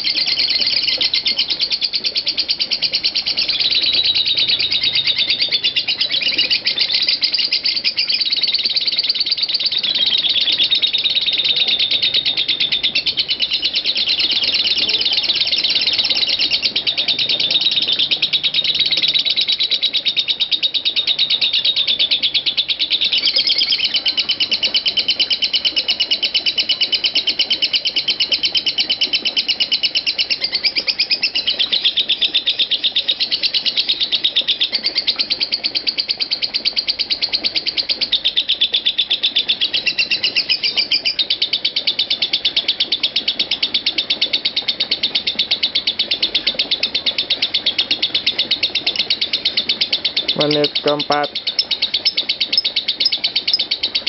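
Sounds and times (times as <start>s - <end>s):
bird chattering trill: 0.0s - 43.6s, 44.3s - 54.0s.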